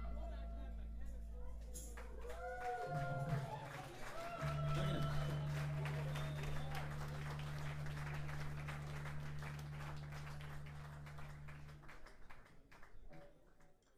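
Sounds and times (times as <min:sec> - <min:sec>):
audience applauding: 0:01.9 - 0:13.9.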